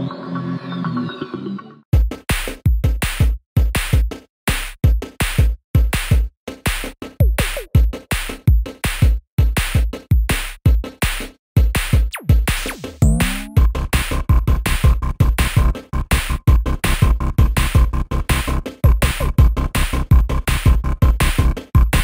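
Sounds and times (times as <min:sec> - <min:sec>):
electronic drum-machine beat: 0:02.0 - 0:22.0.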